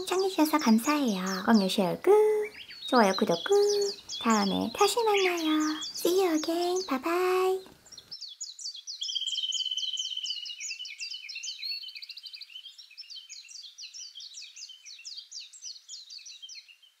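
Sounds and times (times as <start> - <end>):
bird trill: 0.0 - 17.0
small birds chirping: 0.0 - 17.0.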